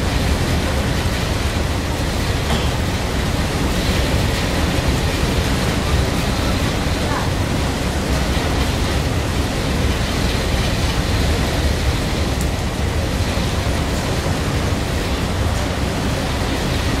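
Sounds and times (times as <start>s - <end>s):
wind and rain: 0.0s - 17.0s
wind buffeting microphone: 0.0s - 17.0s.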